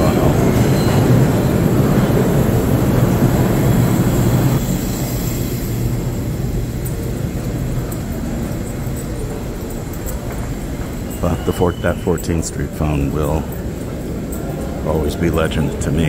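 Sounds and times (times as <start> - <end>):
subway train running: 0.0 - 16.0.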